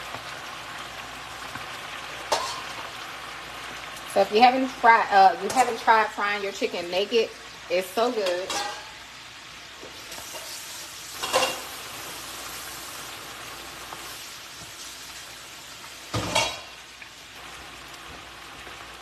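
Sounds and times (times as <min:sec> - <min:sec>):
chicken wings sizzling in oil: 0:00.0 - 0:19.0.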